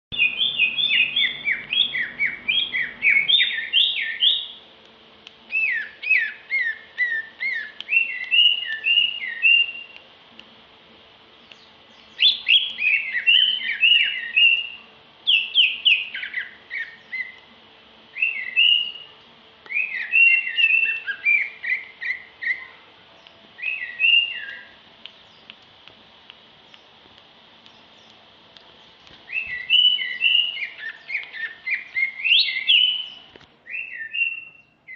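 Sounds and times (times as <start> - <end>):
bird singing whistled notes: 0.1 - 4.6, 5.5 - 10.0, 11.4 - 17.5, 18.1 - 25.5, 28.8 - 34.9.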